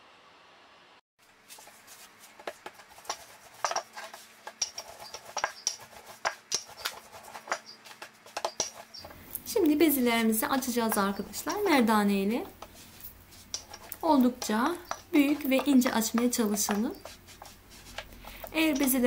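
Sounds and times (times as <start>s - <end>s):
hands patting dough on board: 2.3s - 19.0s.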